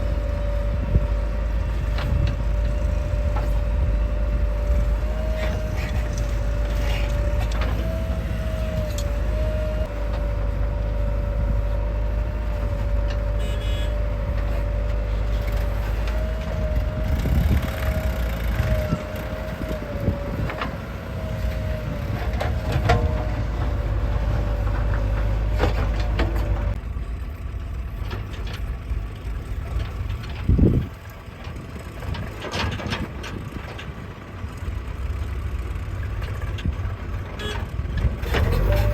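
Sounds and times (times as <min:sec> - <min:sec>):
diesel engine rumble: 0:00.0 - 0:38.9.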